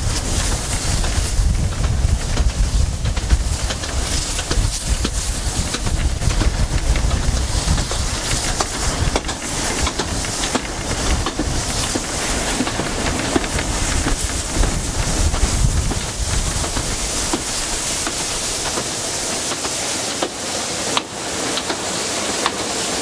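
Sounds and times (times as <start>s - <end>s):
train rumble and hiss: 0.0s - 23.0s
wheels clicking on track: 0.0s - 23.0s.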